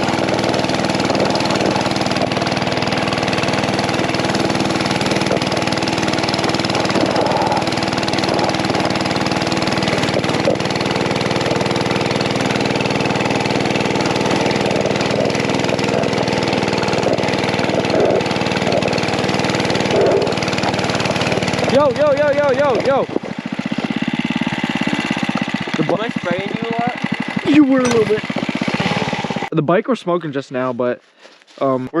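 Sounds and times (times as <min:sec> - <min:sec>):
small engine idling: 0:00.0 - 0:29.5.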